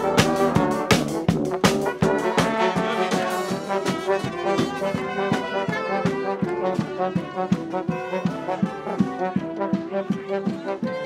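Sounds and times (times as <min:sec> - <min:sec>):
brass band playing: 0:00.0 - 0:11.0
marching drums: 0:00.0 - 0:11.0.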